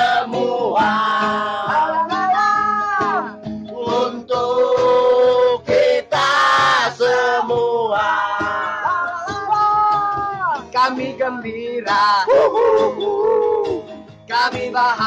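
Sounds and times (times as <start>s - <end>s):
men singing: 0.0s - 15.0s
strummed acoustic guitar: 0.0s - 15.0s.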